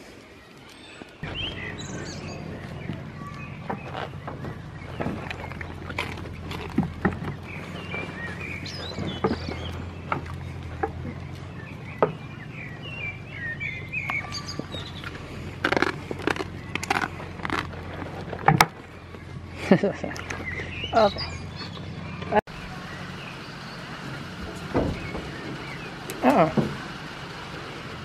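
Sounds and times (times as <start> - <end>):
small birds chirping: 0.0 - 28.0
goats knocking and rustling: 1.2 - 20.8, 24.0 - 28.0
steady low rumble: 1.2 - 28.0.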